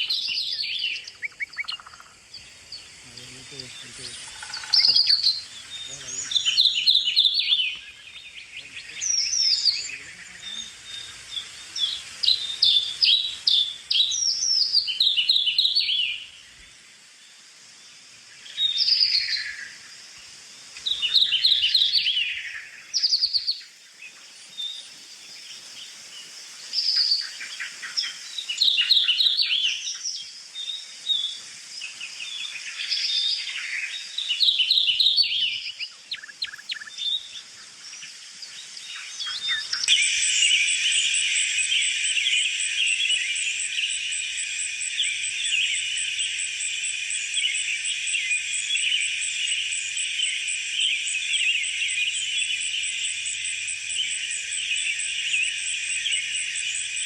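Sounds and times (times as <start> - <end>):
songbirds chirping and singing: 0.0 - 16.6, 20.6 - 57.0.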